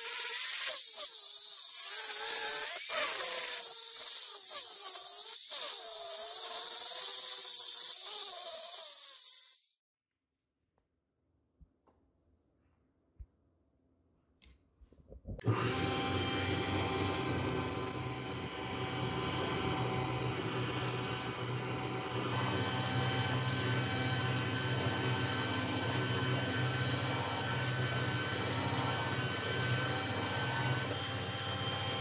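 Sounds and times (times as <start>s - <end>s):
belt grinder grinding steel: 0.0s - 9.8s, 15.4s - 32.0s.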